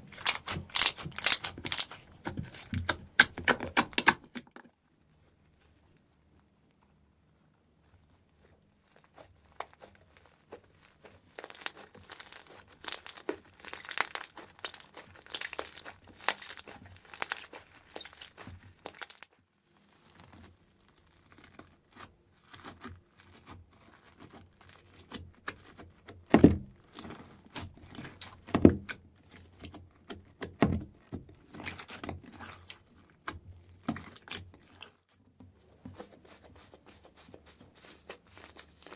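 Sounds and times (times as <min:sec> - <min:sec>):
slime crackling and popping: 0:00.0 - 0:04.5, 0:08.4 - 0:35.2, 0:36.0 - 0:38.9.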